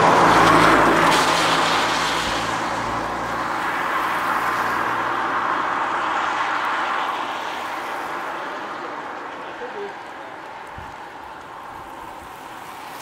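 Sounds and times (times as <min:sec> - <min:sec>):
car passing on wet road: 0:00.0 - 0:13.0.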